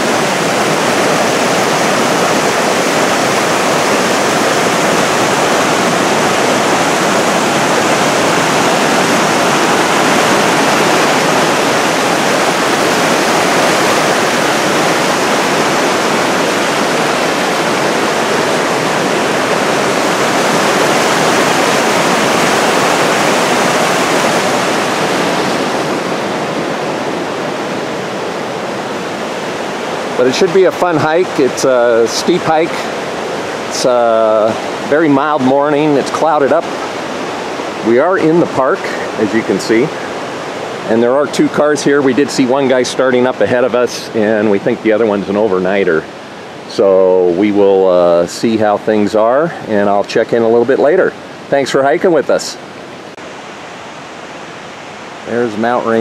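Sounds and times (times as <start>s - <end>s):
creek rushing over boulders: 0.0s - 56.0s.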